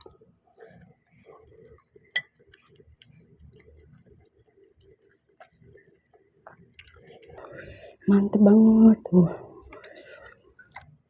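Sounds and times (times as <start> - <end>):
chewing noodles: 0.0 - 8.1, 9.5 - 11.0.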